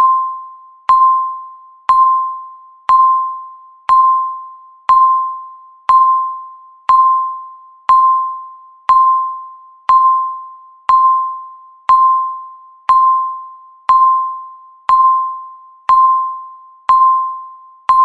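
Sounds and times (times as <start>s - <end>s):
electronic countdown beeps: 0.0s - 18.0s.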